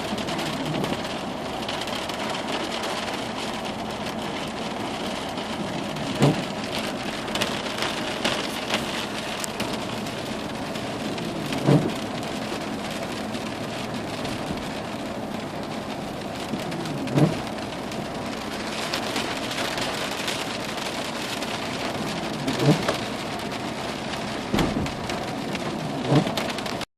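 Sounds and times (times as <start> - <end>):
steady rain pouring: 0.0 - 26.9.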